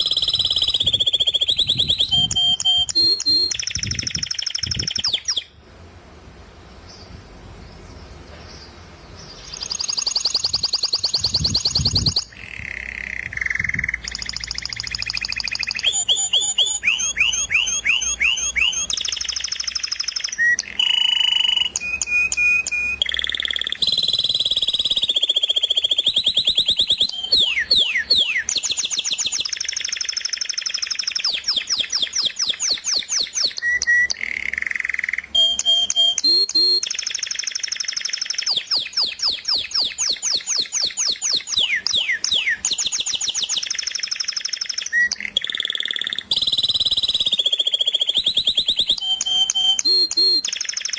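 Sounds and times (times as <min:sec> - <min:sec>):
songbirds whistling and trilling: 0:00.0 - 0:05.6, 0:07.8 - 0:50.9.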